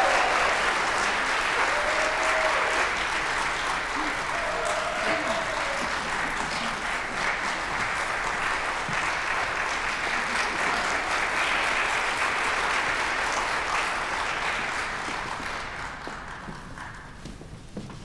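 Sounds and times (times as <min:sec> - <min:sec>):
audience applause: 0:00.0 - 0:17.4.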